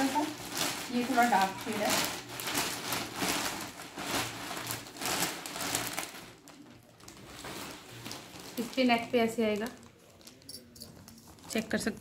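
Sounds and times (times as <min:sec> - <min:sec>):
plastic bag rustling and crinkling: 0:00.0 - 0:12.0.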